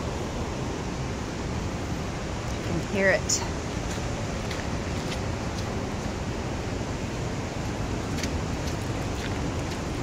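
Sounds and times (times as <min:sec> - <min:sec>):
whitewater and falls roaring: 0:00.0 - 0:10.0.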